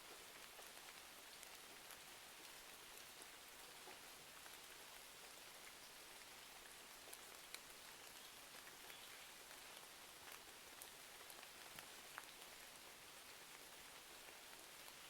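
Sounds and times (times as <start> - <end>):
faint rain hiss: 0.0 - 15.0
small ticks and crackles: 0.0 - 15.0.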